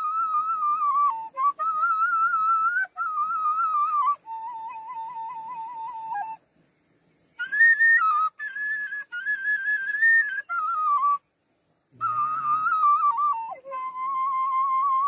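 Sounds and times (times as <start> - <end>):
flute melody: 0.0 - 6.4, 7.4 - 11.2, 12.0 - 15.0.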